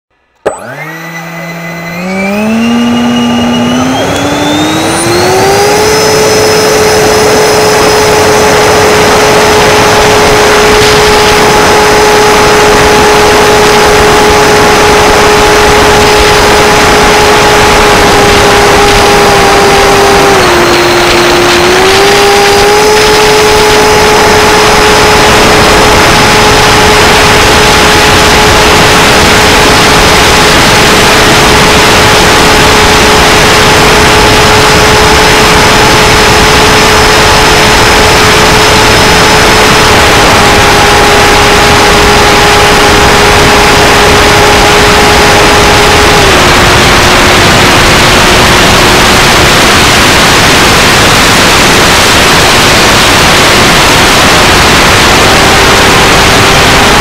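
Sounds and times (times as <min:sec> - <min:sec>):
electric ducted fan whine: 0:00.2 - 0:57.0
loud rush of air: 0:02.0 - 0:57.0.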